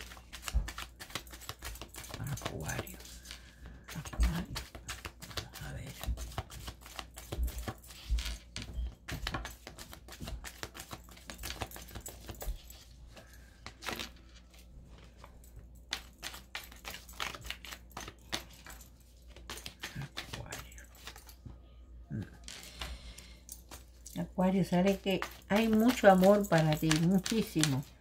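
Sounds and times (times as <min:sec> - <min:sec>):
cards being shuffled: 0:00.0 - 0:21.4, 0:24.6 - 0:28.0.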